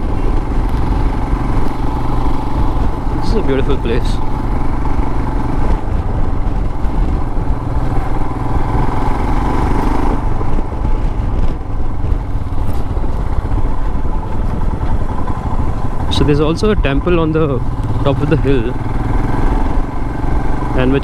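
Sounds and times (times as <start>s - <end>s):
motorcycle engine low rumble: 0.0s - 21.0s.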